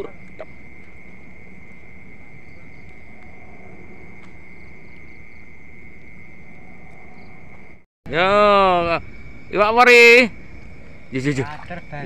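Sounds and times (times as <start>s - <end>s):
crickets trilling: 0.0s - 12.0s
insects chirping: 0.0s - 12.0s.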